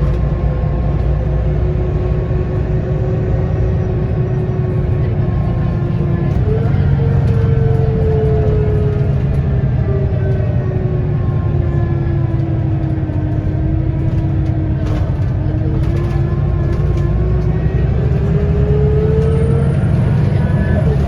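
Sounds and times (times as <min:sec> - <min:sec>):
bus diesel engine rumble: 0:00.0 - 0:21.0.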